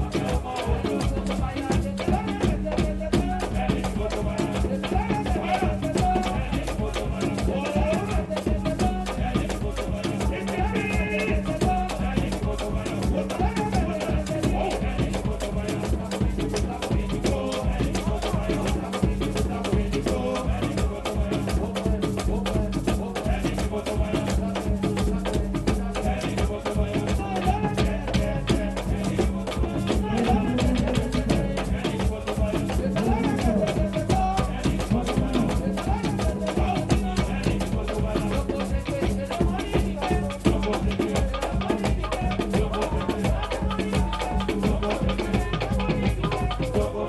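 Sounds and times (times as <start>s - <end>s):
parade music with drums: 0.0s - 47.0s.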